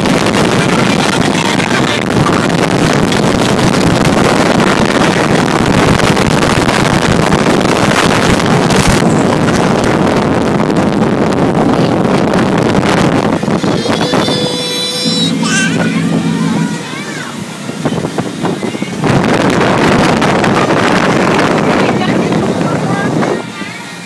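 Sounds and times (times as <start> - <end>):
motorboat running at speed: 0.0 - 24.0
wind buffeting microphone: 0.0 - 24.0.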